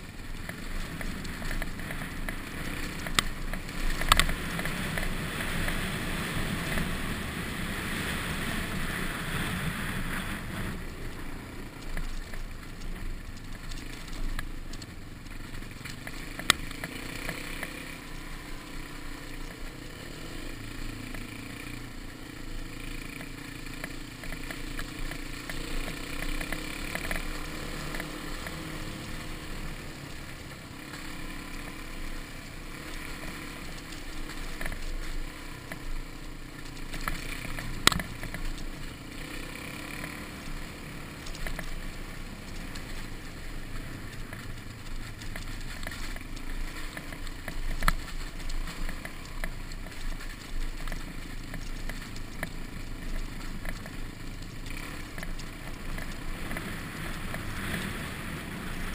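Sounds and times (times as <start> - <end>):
dirt bike engine running: 0.0 - 58.9
wind and road noise: 0.0 - 58.9.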